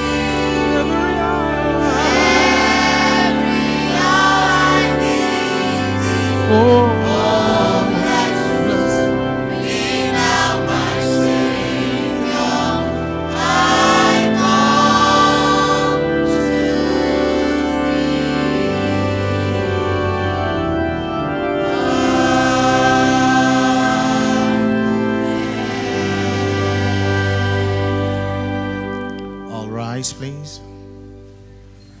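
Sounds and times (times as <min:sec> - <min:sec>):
sustained bass line: 0:00.0 - 0:30.6
church choir singing: 0:00.0 - 0:31.9.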